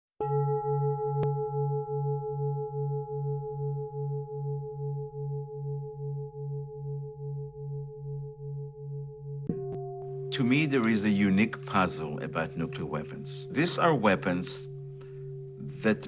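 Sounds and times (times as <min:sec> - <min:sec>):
deep throbbing ringing tone: 0:00.2 - 0:16.0.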